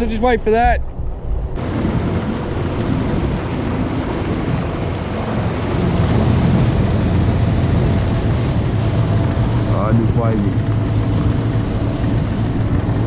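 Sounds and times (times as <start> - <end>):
wind buffeting microphone: 0.0 - 13.0
low rumble: 0.4 - 13.0.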